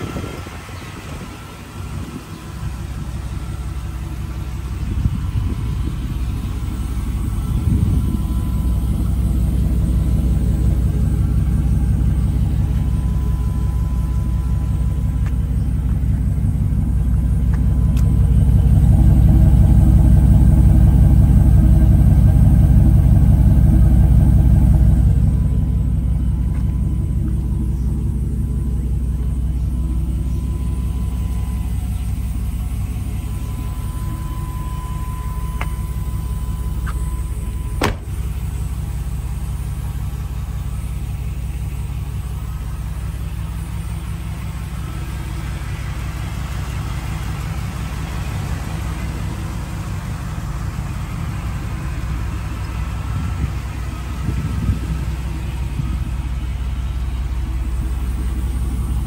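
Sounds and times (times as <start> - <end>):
pickup engine idling: 0.0 - 59.0.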